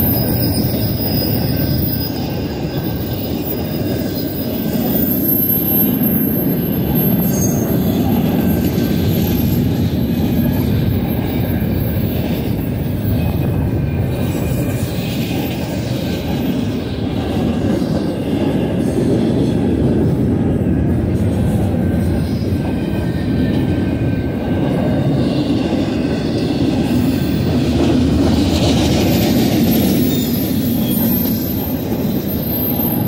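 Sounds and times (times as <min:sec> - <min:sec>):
faint high wheel squeal: 0:00.0 - 0:33.0
train wheels rumbling on rail: 0:00.0 - 0:33.0.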